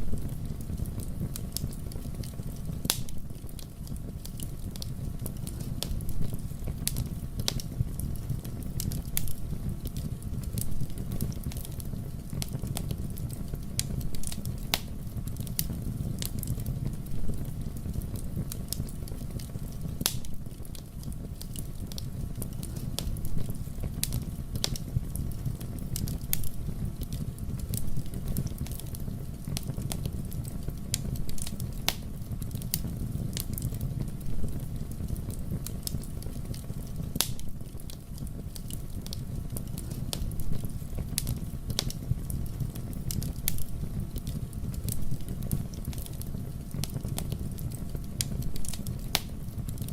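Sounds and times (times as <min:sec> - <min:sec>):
flames rushing: 0:00.0 - 0:49.9
wood crackling and popping: 0:00.0 - 0:49.9.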